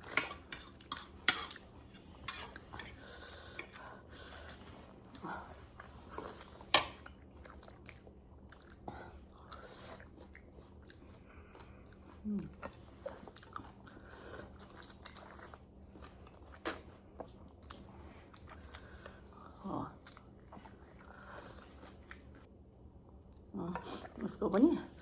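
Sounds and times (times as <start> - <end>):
chewing and crunching food: 0.0 - 22.5, 23.1 - 25.0.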